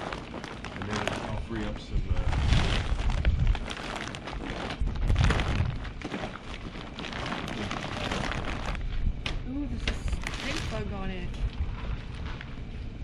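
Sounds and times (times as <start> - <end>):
plastic wrap crinkling: 0.0 - 13.0
wind rumbling on microphone: 0.8 - 13.0.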